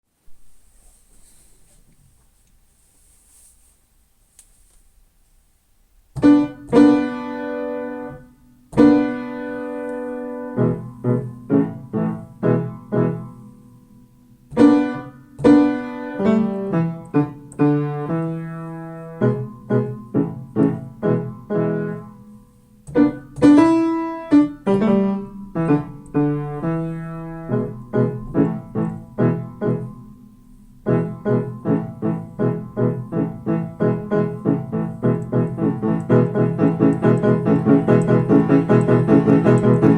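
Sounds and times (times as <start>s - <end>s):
piano playing: 6.2s - 39.9s.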